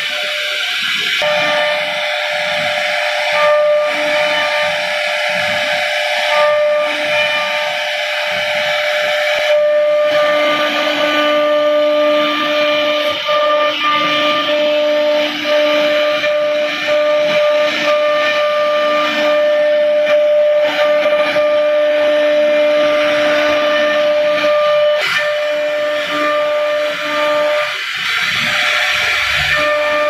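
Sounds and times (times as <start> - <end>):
router spindle whining: 0.0 - 30.0.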